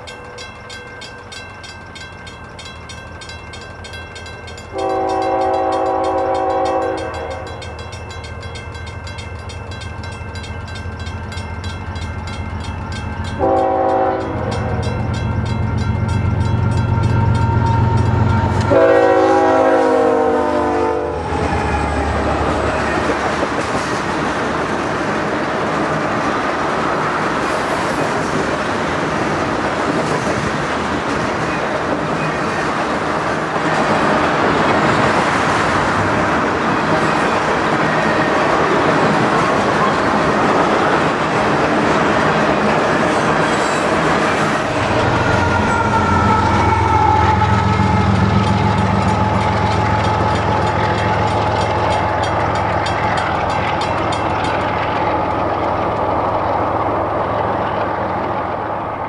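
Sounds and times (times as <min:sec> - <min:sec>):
clickety-clack over rail joints: 0:00.0 - 0:19.8, 0:21.2 - 0:59.0
locomotive engine drone: 0:00.0 - 0:27.7, 0:30.4 - 0:59.0
train wheels rumbling on rail: 0:00.0 - 0:59.0.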